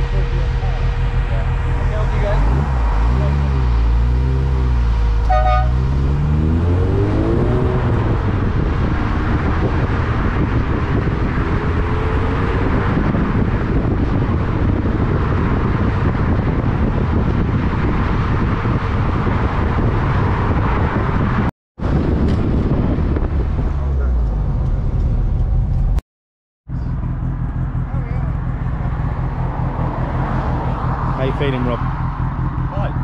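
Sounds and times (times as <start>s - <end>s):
car engine accelerating: 0.0s - 26.0s, 26.7s - 33.0s
wind and road noise: 0.0s - 26.0s, 26.7s - 33.0s.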